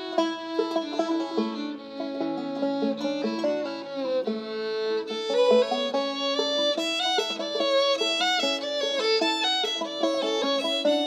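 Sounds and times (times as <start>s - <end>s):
banjo picking: 0.0s - 11.0s
fiddle playing: 0.0s - 11.0s.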